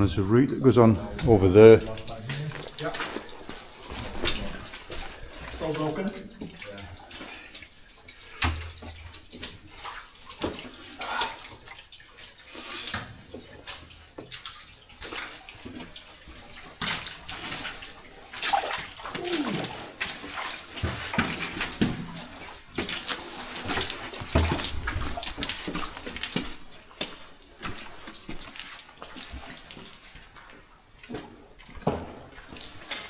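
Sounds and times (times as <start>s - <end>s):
footsteps splashing through water: 1.1s - 33.0s.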